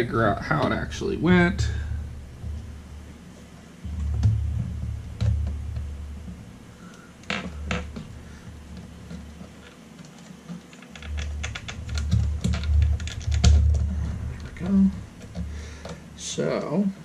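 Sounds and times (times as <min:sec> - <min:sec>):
low rumble: 0:00.0 - 0:09.8, 0:11.0 - 0:16.2.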